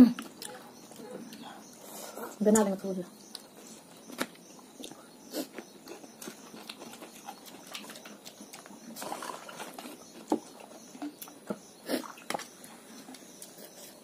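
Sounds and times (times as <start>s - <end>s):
chewing: 0.2s - 2.7s, 3.3s - 12.5s.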